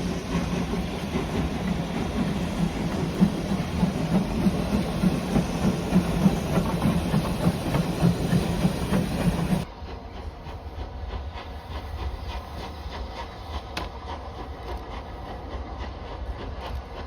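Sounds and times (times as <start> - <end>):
train running on tracks: 0.0 - 17.0.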